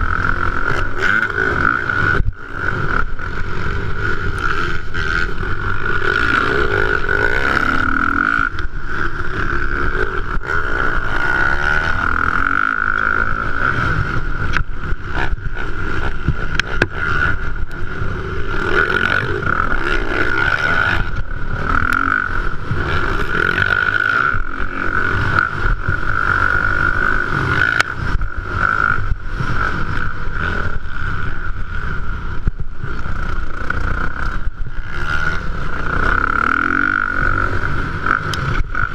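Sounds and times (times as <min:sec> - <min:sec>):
motocross bike engine running hard: 0:00.0 - 0:38.9.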